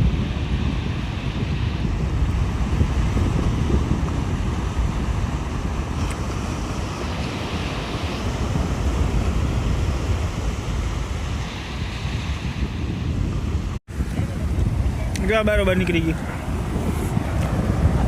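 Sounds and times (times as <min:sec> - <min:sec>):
surf washing on shore: 0:00.0 - 0:18.0
wind buffeting microphone: 0:00.0 - 0:18.0.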